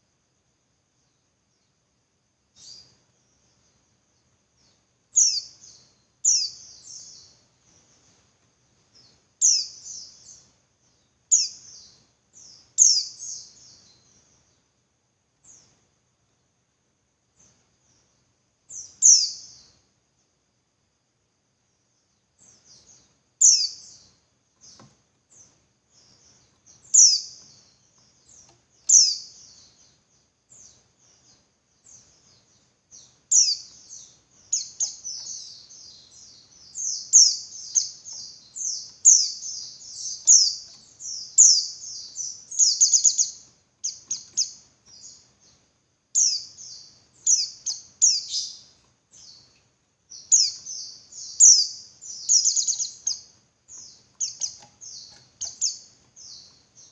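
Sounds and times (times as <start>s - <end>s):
bird high chirps: 2.6s - 3.7s, 4.6s - 8.0s, 9.0s - 14.6s, 18.7s - 19.8s, 22.4s - 56.9s.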